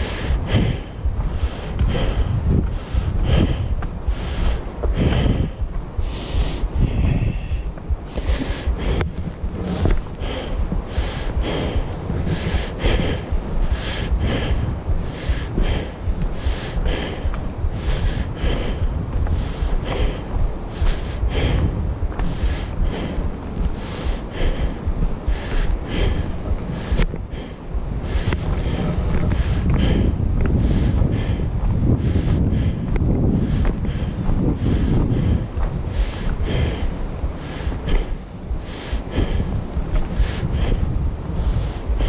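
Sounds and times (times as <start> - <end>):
breathing: 0.0 - 42.0
footsteps on trail: 0.0 - 42.0
wind rumble on microphone: 0.0 - 42.0.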